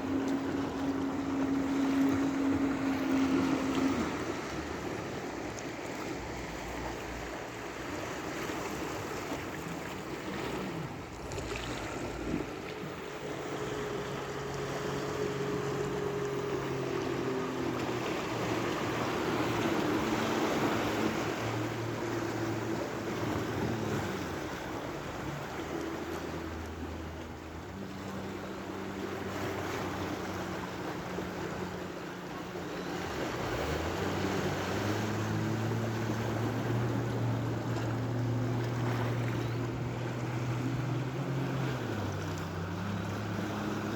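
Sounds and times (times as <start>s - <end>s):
boat engine running: 0.0s - 43.9s
sea waves washing ashore: 0.0s - 43.9s.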